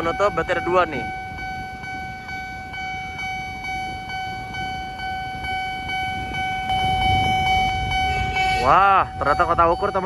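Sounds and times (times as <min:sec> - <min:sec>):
level crossing bell ringing: 0:00.0 - 0:10.0.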